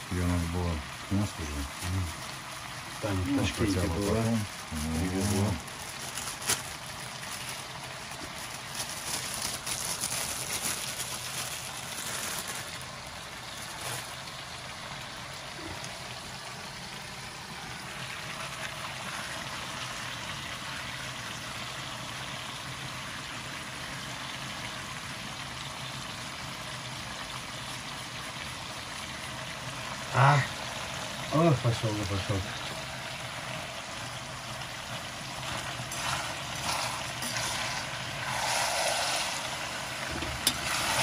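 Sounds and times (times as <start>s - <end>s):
pot bubbling and hissing: 0.0s - 41.0s.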